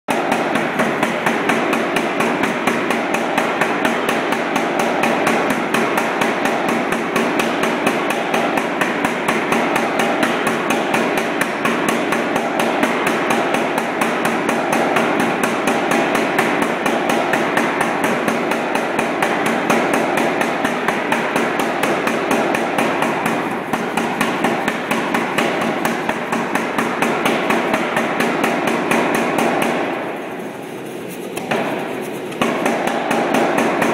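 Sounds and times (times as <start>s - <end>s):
power hammer striking steel: 0.1s - 30.2s, 32.4s - 33.9s.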